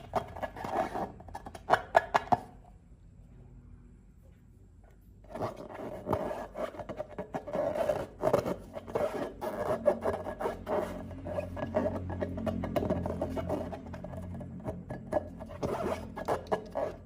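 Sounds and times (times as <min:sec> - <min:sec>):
rubbing and scraping handling: 0:00.0 - 0:02.6, 0:04.9 - 0:17.0.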